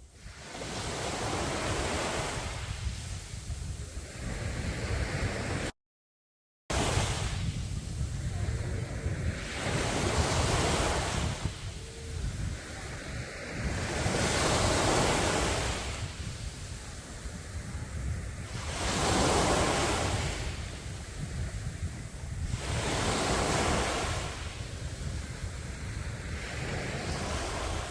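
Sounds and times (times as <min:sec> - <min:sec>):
sea waves breaking on a beach: 0:00.0 - 0:05.7, 0:06.7 - 0:27.9
wind rumble on microphone: 0:00.0 - 0:05.7, 0:06.7 - 0:27.9.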